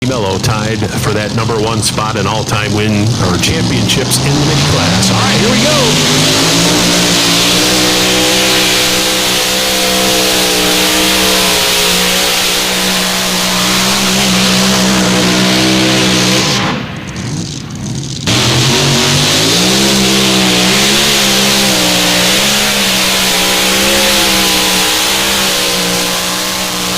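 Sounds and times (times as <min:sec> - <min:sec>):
tractor engine at high revs: 0:00.0 - 0:26.9.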